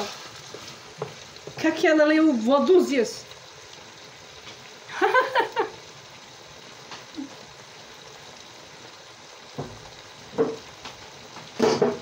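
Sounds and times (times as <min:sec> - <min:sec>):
vegetables frying in a pot: 0:00.0 - 0:12.0.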